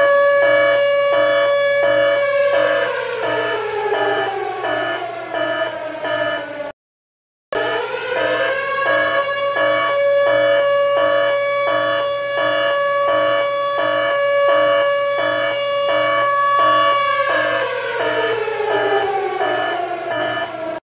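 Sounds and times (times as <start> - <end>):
pulsing alarm siren: 0.0 - 6.8, 7.5 - 20.8.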